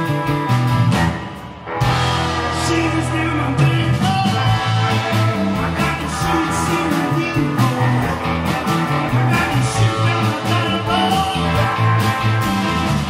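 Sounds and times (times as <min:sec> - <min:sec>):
blues-rock band playing: 0:00.0 - 0:13.0.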